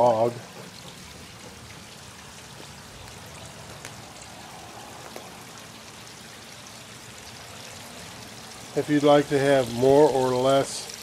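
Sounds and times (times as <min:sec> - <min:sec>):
water drips: 0:00.0 - 0:11.0
water splashing over rocks: 0:00.0 - 0:11.0.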